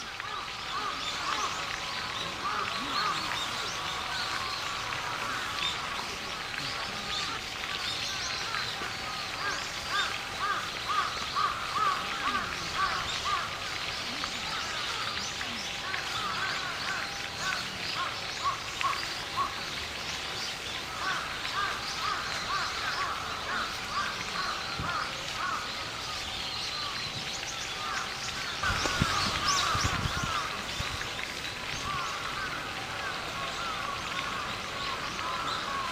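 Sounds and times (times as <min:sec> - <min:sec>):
birds calling harshly: 0:00.0 - 0:35.9.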